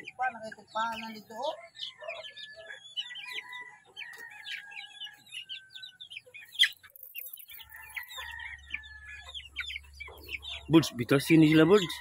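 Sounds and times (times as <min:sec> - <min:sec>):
chickens cheeping and clucking: 0:00.0 - 0:12.0.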